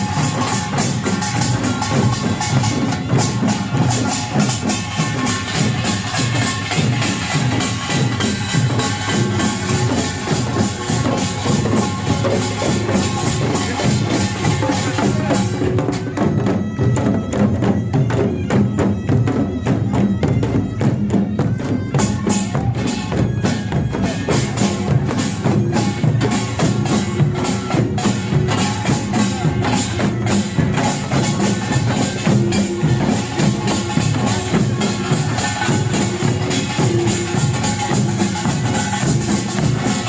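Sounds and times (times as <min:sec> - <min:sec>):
barrel drums: 0:00.0 - 0:40.0
hourglass drums: 0:00.0 - 0:40.0.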